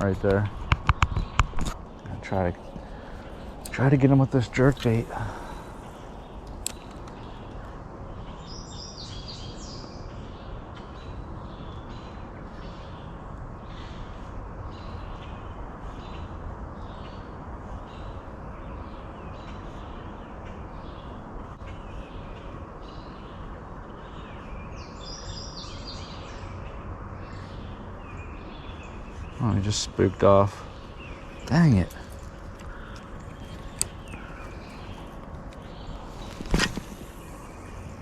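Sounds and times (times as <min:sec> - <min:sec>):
birds calling: 0:00.0 - 0:38.0
steady outdoor rush: 0:00.0 - 0:38.0.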